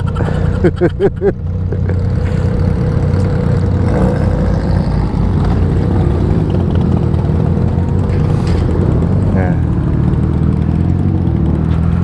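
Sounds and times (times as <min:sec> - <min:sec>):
motorcycle engine idling: 0:00.0 - 0:12.0
other motorcycles idling: 0:00.0 - 0:12.0.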